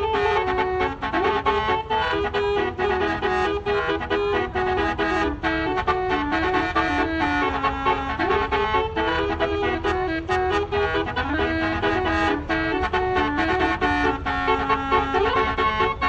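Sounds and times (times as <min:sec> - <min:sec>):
multi-tone bus horn melody: 0:00.0 - 0:16.0.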